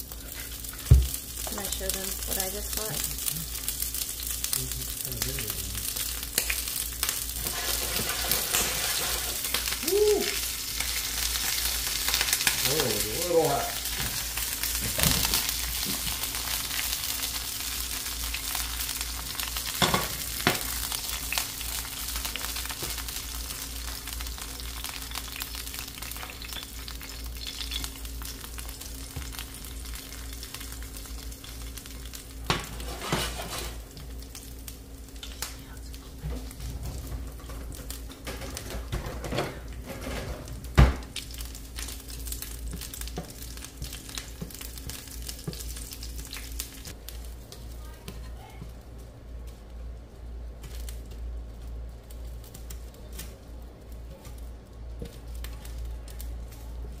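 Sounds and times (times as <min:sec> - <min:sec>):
grasshoppers sizzling in oil: 0:00.0 - 0:57.0.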